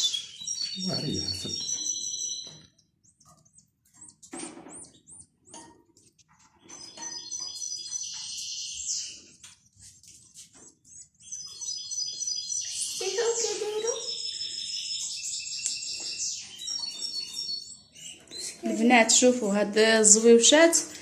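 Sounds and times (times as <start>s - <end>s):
baby sparrows chirping: 0.0s - 21.0s.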